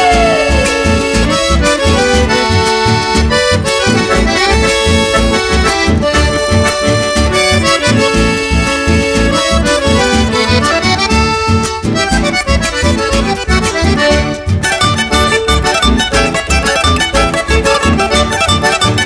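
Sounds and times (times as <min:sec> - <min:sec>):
accordion melody: 0:00.0 - 0:19.0
steady bass rhythm: 0:00.0 - 0:19.0.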